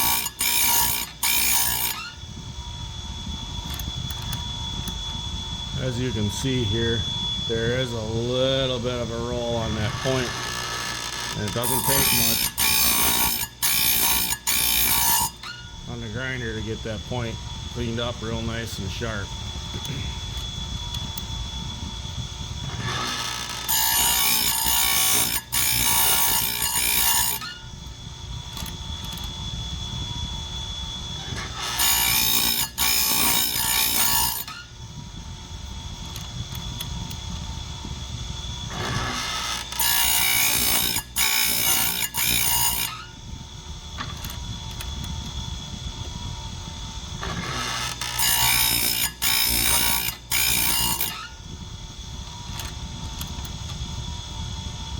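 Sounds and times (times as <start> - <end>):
grinding wheel rasping on teeth: 0.0 - 2.2, 3.6 - 5.0, 7.6 - 29.4, 31.2 - 38.0, 38.6 - 53.8
chain grinder whining: 0.0 - 2.7, 3.4 - 54.9.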